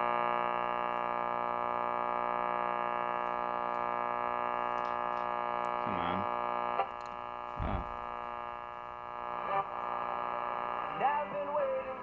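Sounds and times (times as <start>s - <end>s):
music from radio speaker: 0.0s - 12.0s.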